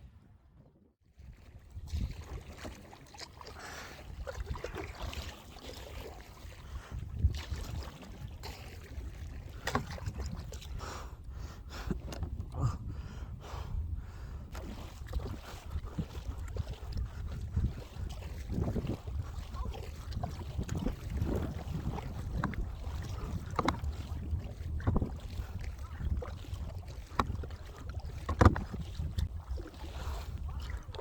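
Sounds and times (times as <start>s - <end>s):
paddle splashing water: 1.1s - 12.7s, 13.5s - 31.0s
wind buffeting microphone: 1.2s - 2.6s, 6.5s - 31.0s.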